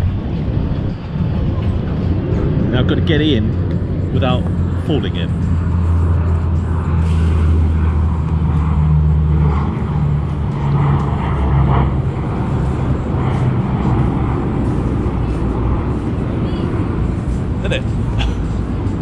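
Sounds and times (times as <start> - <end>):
boat engine humming: 2.0 - 19.0.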